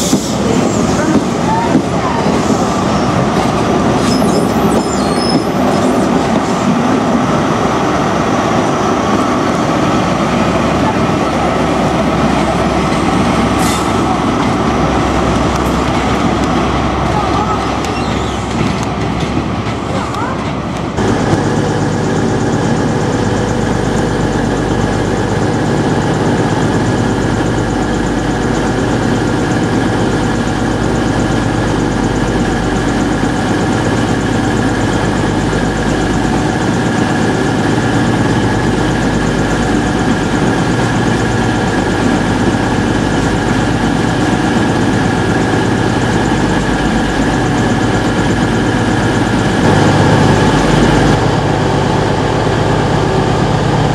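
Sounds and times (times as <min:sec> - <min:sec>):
diesel train engines idling: 0:00.0 - 0:53.9.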